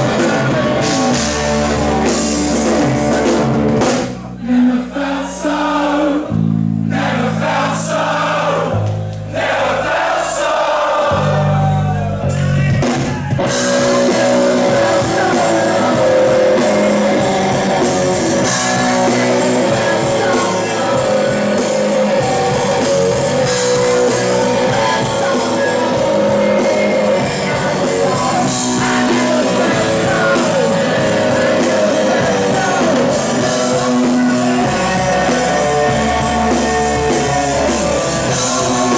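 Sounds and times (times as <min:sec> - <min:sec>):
live rock band playing: 0:00.0 - 0:04.4, 0:11.2 - 0:38.9
man singing: 0:00.0 - 0:06.4, 0:12.4 - 0:38.9
low bass notes: 0:00.0 - 0:09.4, 0:11.1 - 0:38.9.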